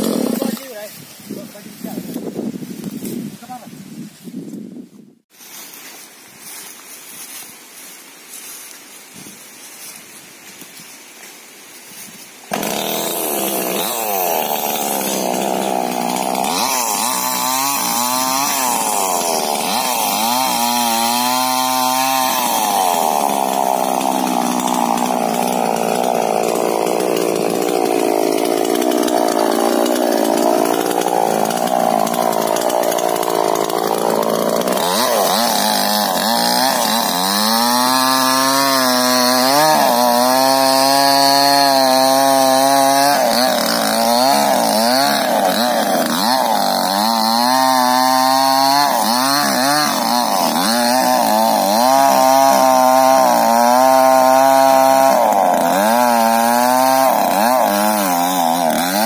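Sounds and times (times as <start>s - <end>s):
chainsaw revving and cutting: 0.0s - 1.0s, 12.5s - 59.0s.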